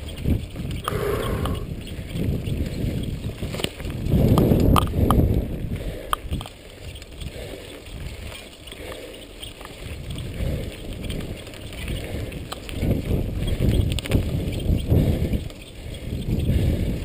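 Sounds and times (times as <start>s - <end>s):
wind buffeting microphone: 0.0s - 8.8s, 9.8s - 17.0s
bike rattling over bumps: 0.0s - 17.0s
bike tyre rumble on dirt trail: 0.0s - 17.0s.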